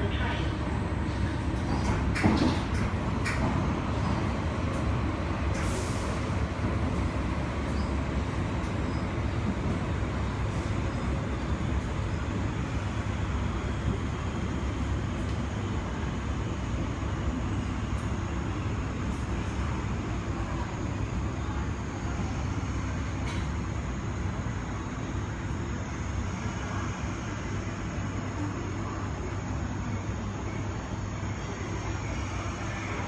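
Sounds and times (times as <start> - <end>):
train wheels and motors rumbling: 0.0 - 33.0.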